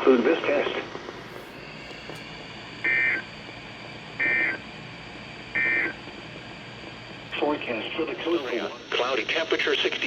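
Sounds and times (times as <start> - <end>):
radio hiss: 0.0 - 4.7, 5.5 - 10.0.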